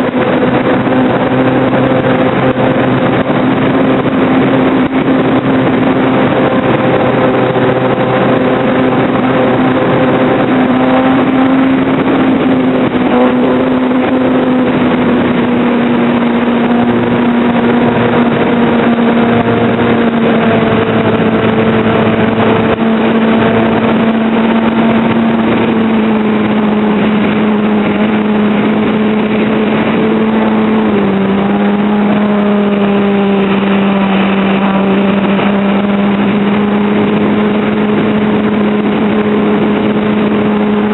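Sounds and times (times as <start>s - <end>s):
wind rushing: 0.0s - 40.9s.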